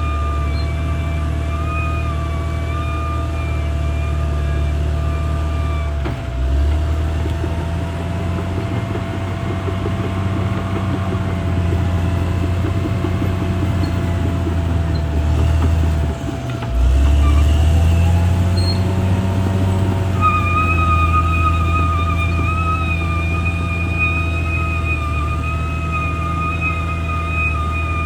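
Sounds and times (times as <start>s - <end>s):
bulldozer diesel engine droning: 0.0s - 28.0s.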